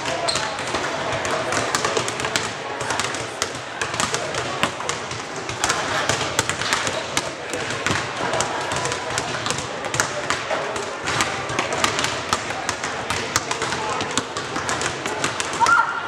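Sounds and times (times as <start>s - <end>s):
murmur of voices: 0.0s - 16.0s
basketball bouncing on hardwood: 0.3s - 10.5s, 11.1s - 15.7s.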